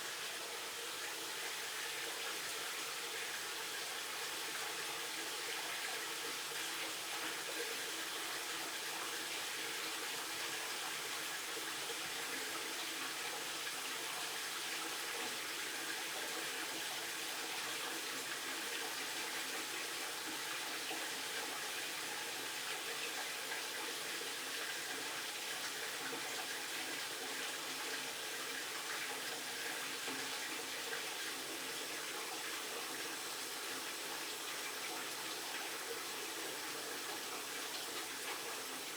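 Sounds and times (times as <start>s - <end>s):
water running from faucet: 0.0s - 38.9s.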